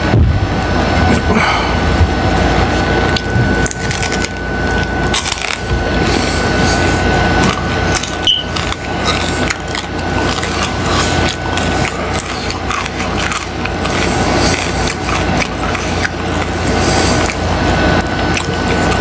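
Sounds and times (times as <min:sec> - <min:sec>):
crunchy chewing: 0:02.6 - 0:19.0.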